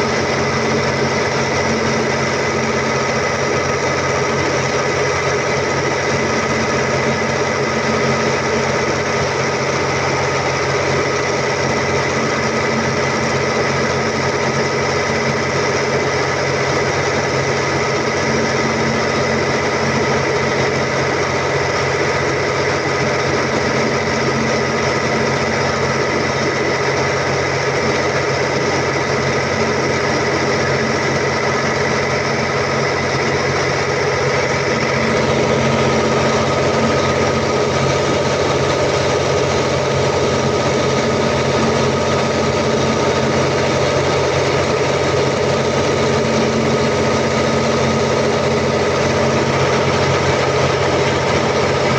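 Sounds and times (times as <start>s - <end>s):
diesel generator engine running: 0.0s - 51.9s.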